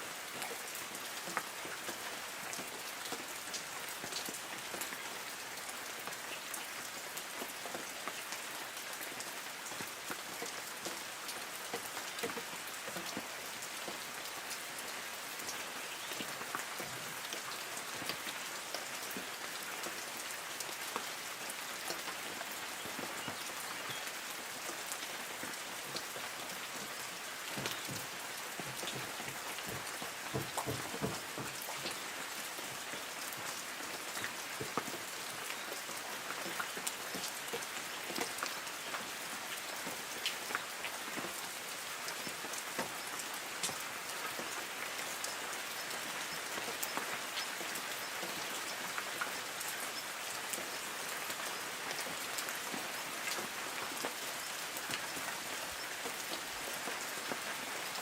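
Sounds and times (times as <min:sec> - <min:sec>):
raindrops pattering on leaves: 0:00.0 - 0:58.0.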